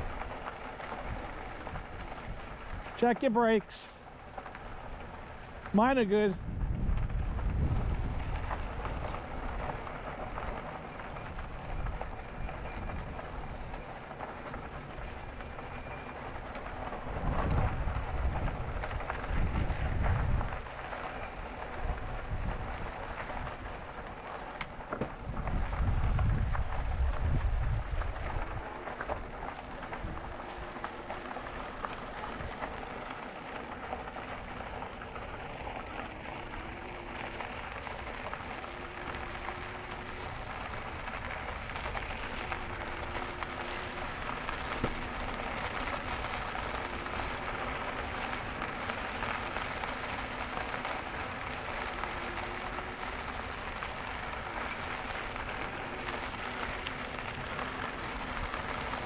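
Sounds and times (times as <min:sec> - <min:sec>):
bike tyres crunching on gravel: 0:00.0 - 0:59.0.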